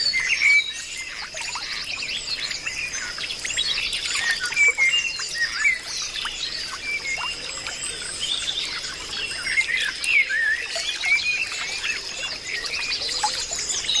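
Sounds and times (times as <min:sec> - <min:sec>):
birds chirping in chorus: 0:00.0 - 0:14.0.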